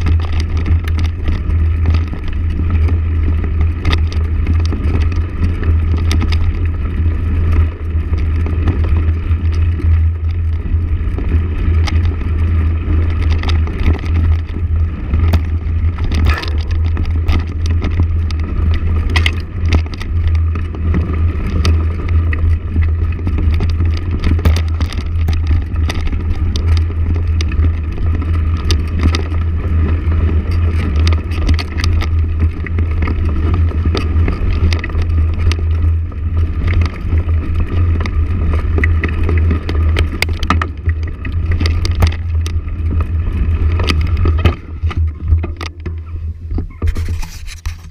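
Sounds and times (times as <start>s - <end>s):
motorcycle engine rumbling: 0.0s - 47.9s.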